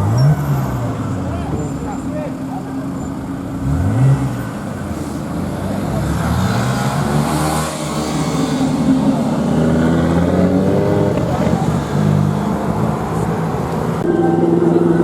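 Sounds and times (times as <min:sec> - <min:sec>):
car engines passing: 0:00.0 - 0:15.0.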